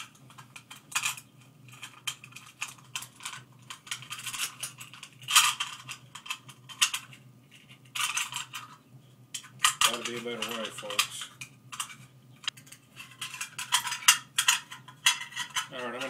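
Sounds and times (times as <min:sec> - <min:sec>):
magazine parts clicking and rattling: 0:00.0 - 0:08.8, 0:09.4 - 0:16.0.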